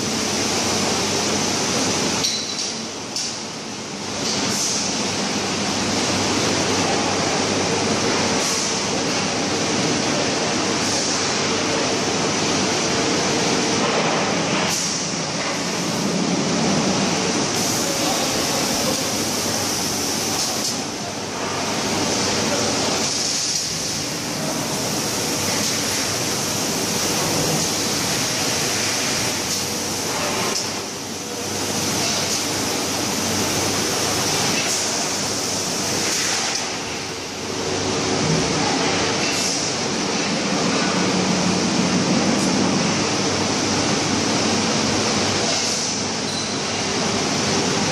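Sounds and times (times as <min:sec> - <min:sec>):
production line machinery din: 0:00.0 - 0:47.9.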